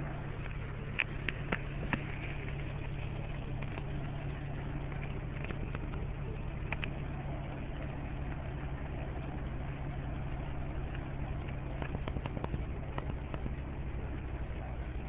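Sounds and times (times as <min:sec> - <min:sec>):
truck engine and road noise: 0:00.0 - 0:15.0
light ticks: 0:00.1 - 0:15.0.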